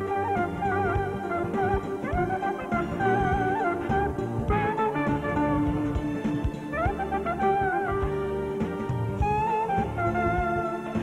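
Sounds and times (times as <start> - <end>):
band with steady beat: 0.0 - 11.0
clarinet melody: 0.0 - 11.0.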